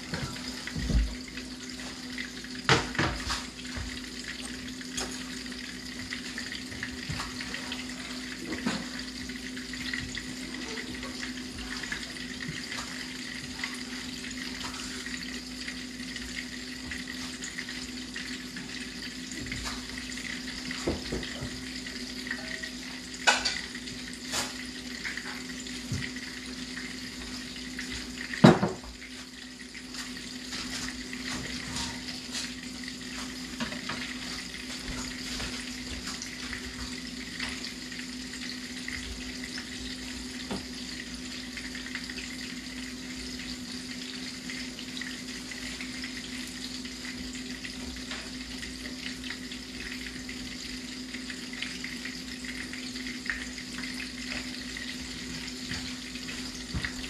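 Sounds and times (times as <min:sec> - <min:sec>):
fish sizzling in oil: 0:00.0 - 0:57.0.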